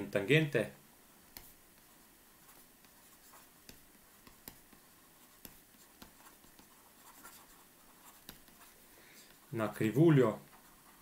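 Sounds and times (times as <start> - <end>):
stylus scratching on screen: 1.3 - 11.0.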